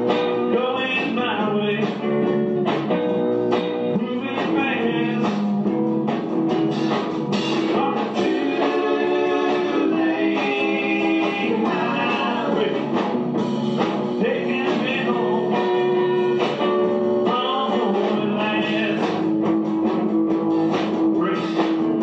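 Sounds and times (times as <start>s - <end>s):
guitar rock music: 0.0s - 22.0s.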